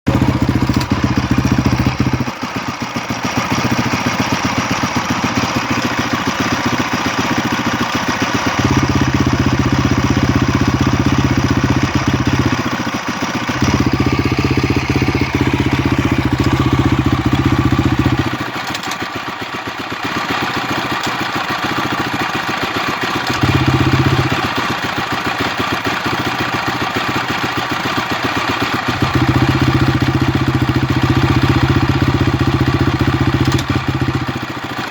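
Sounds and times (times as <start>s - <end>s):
dirt bike engine idling: 0.1s - 34.9s.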